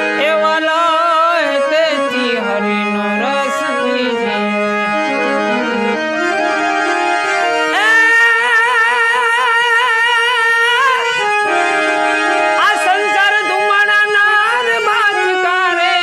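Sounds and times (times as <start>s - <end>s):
harmonium melody over drone: 0.0s - 16.0s.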